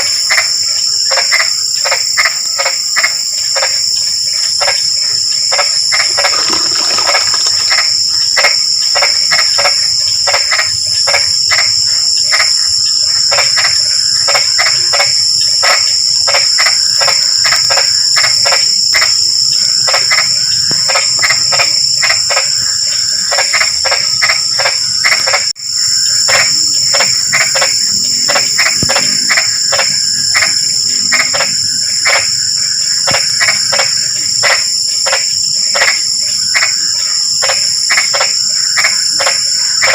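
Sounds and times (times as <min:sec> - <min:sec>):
frogs croaking: 0:00.0 - 0:39.9
insects trilling: 0:00.0 - 0:39.9.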